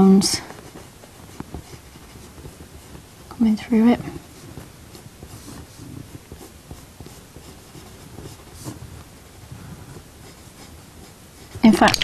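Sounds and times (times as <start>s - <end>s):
pencil scratching on paper: 0.0s - 12.0s.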